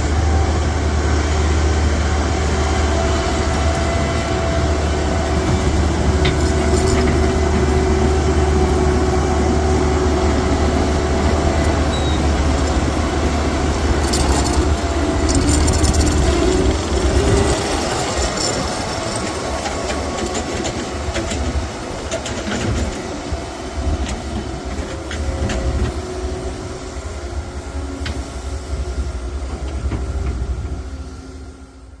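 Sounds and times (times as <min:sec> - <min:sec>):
excavator engine rumble: 0:00.0 - 0:32.0.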